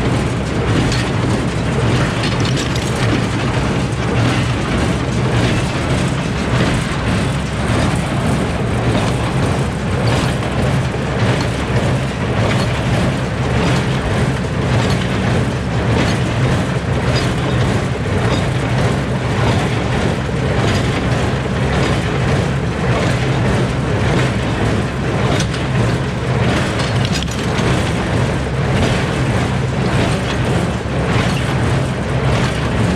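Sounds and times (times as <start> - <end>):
tractor engine hum: 0.0 - 32.9.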